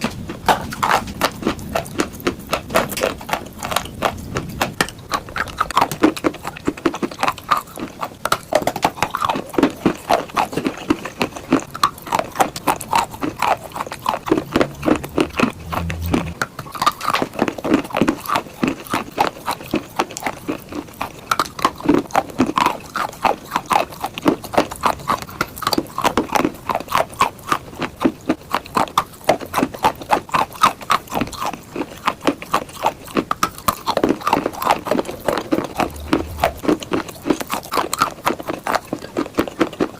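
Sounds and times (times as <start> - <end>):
chalk crunching in mouth: 0.0 - 39.9.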